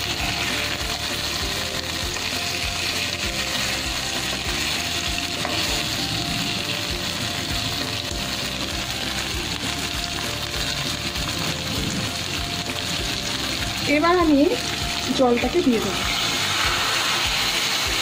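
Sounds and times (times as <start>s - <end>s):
fish sizzling in a frying pan: 0.0s - 18.0s.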